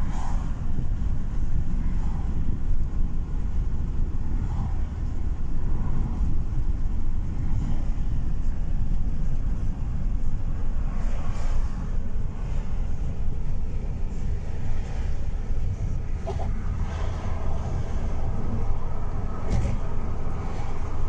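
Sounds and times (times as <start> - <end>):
car road rumble: 0.0 - 21.0.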